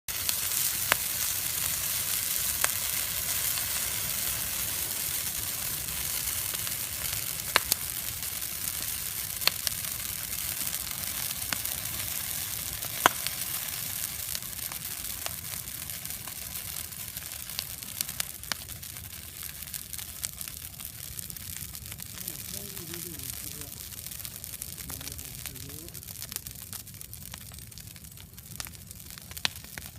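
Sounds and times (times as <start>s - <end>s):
bonfire crackling and popping: 0.1s - 29.9s.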